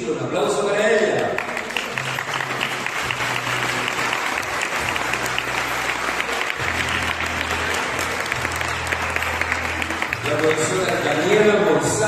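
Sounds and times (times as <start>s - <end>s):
low background music: 0.0s - 12.0s
audience applauding: 1.0s - 12.0s.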